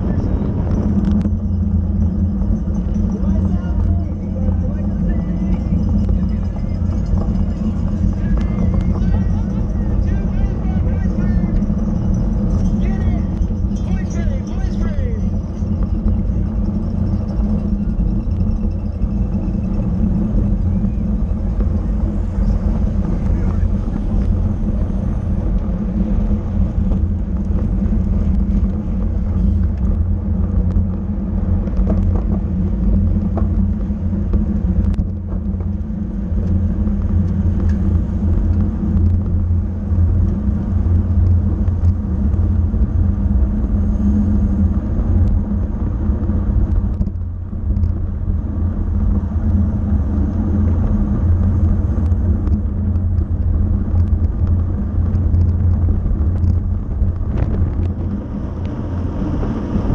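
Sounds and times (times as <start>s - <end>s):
bicycle road noise: 0.0s - 59.9s
wind rumble: 0.0s - 59.9s.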